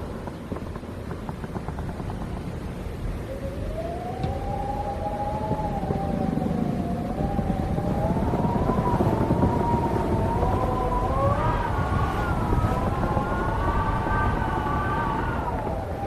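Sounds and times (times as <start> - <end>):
wind howling: 0.0 - 16.0.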